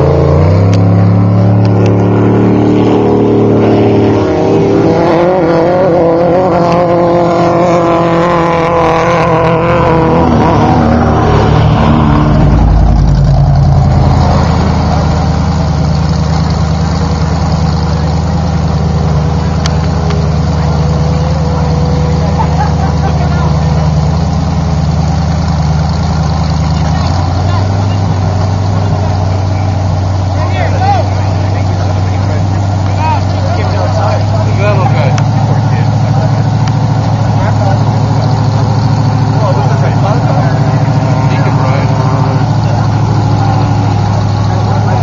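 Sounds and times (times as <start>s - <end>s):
race vehicle engine revving: 0.0s - 45.0s.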